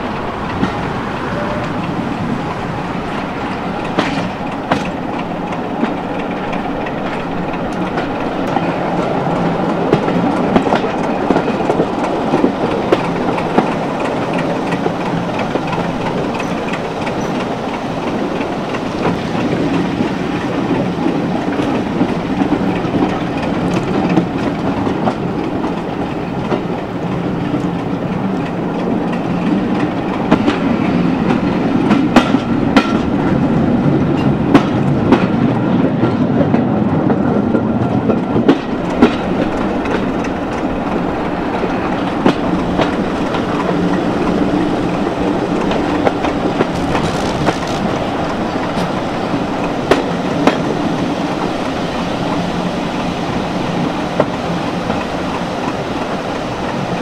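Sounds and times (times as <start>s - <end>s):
train rolling rumble: 0.0s - 57.0s
wheels clicking over rail joints: 0.0s - 57.0s.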